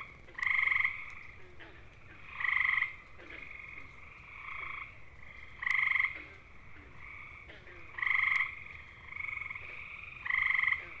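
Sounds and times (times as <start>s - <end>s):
tree frogs trilling: 0.0s - 11.0s.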